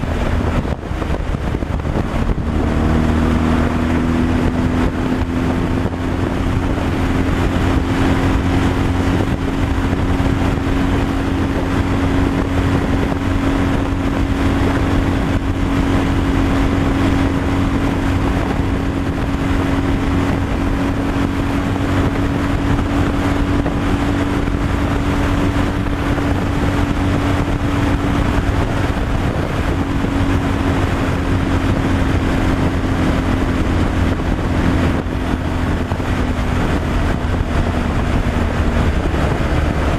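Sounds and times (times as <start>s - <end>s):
road noise: 0.0s - 39.9s
truck engine droning: 0.0s - 39.9s
wind: 0.0s - 39.9s.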